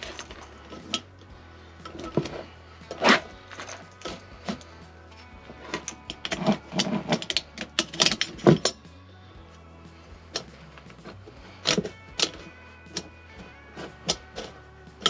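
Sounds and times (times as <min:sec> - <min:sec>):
metal clinks and clatter: 0:00.0 - 0:15.0
soft background music: 0:00.0 - 0:15.0.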